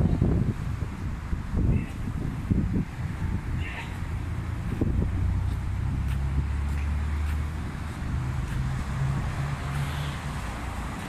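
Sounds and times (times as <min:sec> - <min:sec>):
road noise: 0:00.0 - 0:11.0
vehicle engines humming: 0:00.0 - 0:11.0.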